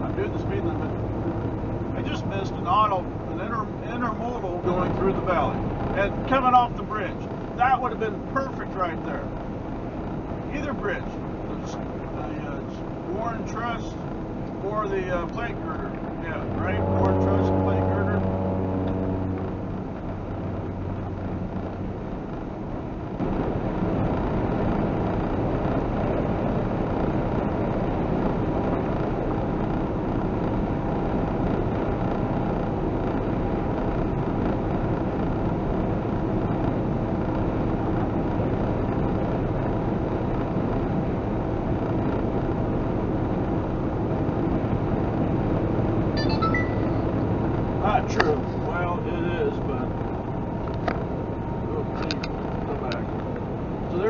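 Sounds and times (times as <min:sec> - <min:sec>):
truck engine and tyre drone: 0:00.0 - 0:54.0.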